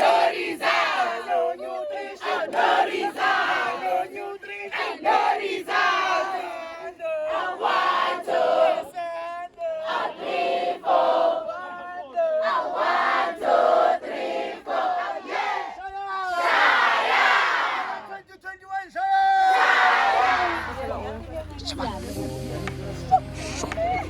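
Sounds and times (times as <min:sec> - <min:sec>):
crowd chanting and singing: 0:00.0 - 0:18.3, 0:19.3 - 0:24.0.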